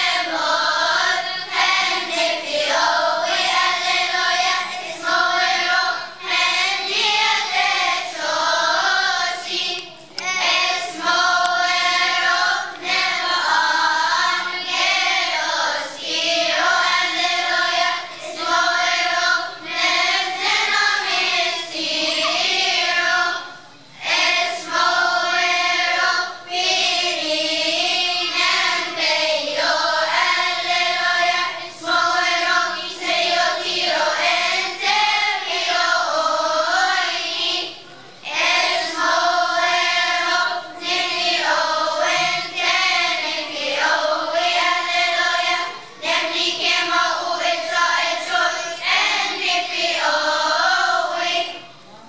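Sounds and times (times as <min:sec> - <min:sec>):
children's choir singing: 0:00.0 - 0:52.0.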